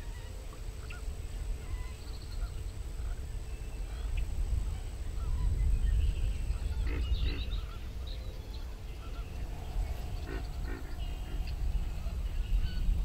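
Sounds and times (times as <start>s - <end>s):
birds calling: 0.0s - 13.0s
small birds chirping: 0.2s - 13.0s.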